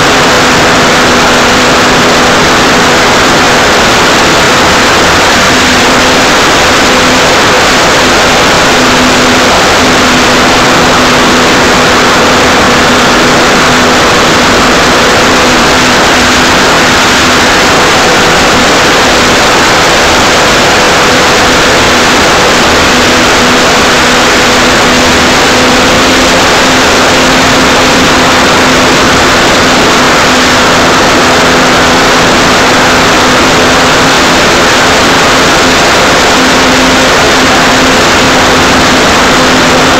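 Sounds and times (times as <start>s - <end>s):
model plane motor drone: 0.0s - 39.9s
wind rush: 0.0s - 39.9s.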